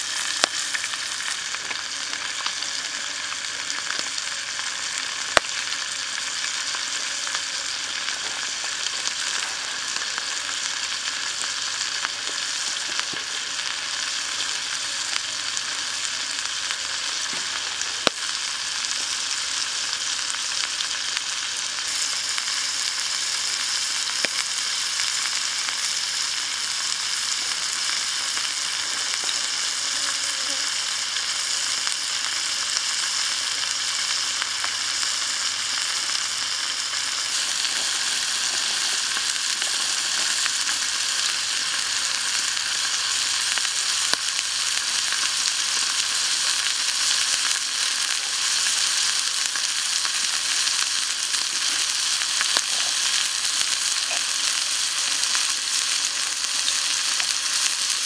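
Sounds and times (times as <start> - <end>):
chicken sizzling in oil: 0.0 - 58.0.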